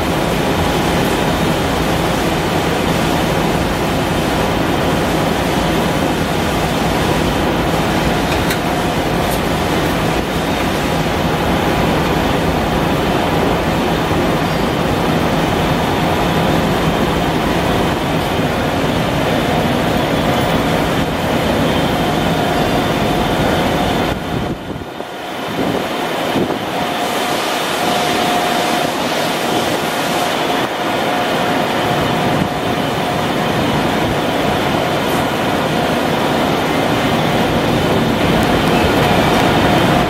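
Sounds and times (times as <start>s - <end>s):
industrial machinery noise: 0.0s - 40.0s.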